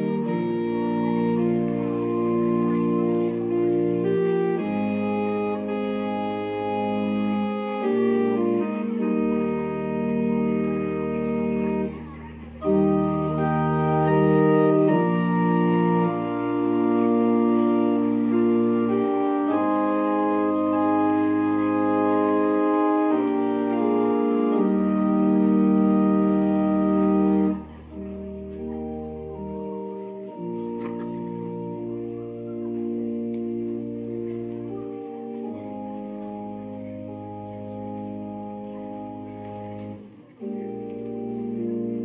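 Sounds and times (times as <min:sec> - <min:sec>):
organ playing slow chords: 0:00.0 - 0:42.0.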